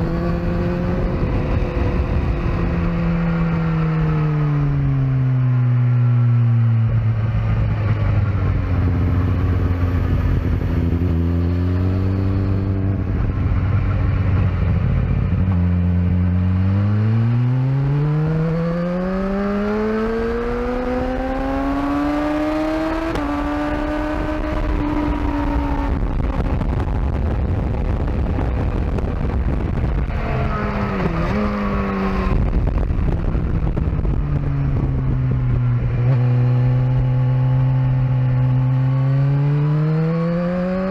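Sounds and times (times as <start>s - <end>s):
wind rush: 0.0s - 5.2s, 6.8s - 40.9s
motorcycle engine revving: 0.0s - 40.9s.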